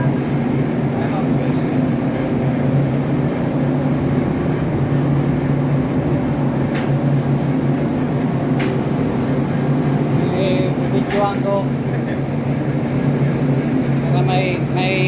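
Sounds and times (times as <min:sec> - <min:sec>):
engine-room machinery drone: 0:00.0 - 0:15.0.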